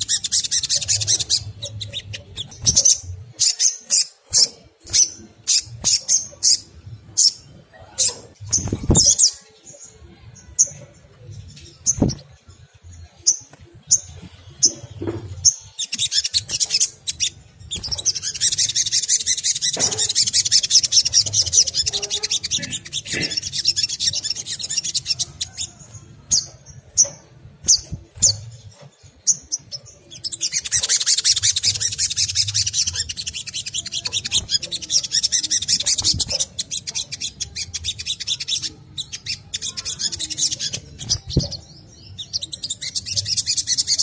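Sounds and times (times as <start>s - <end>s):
sunbird chattering twitters: 0.0s - 9.4s, 15.4s - 25.8s, 26.4s - 44.0s.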